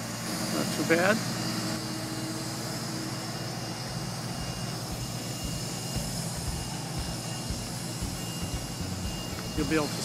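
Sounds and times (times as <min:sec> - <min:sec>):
crane diesel engine running: 0:00.0 - 0:10.0.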